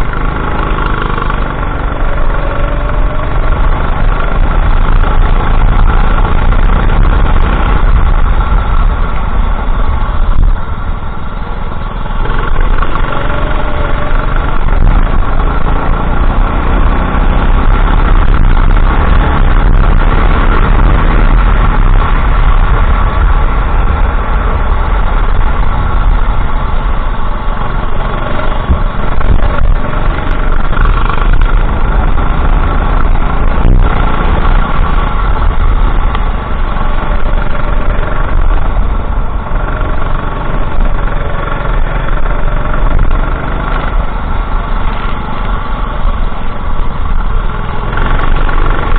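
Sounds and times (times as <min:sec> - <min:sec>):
go-kart engine running hard: 0:00.0 - 0:48.9.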